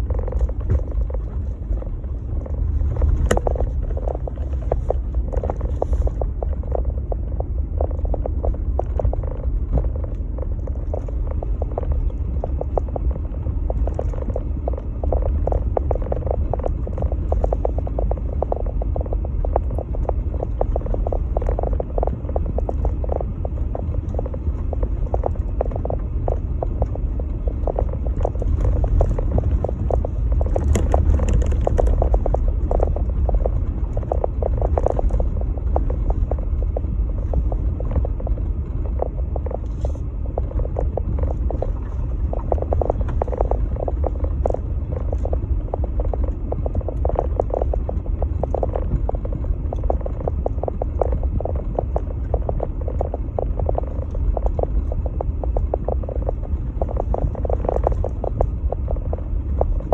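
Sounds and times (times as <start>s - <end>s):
engine and tyres rumbling: 0.0s - 59.9s.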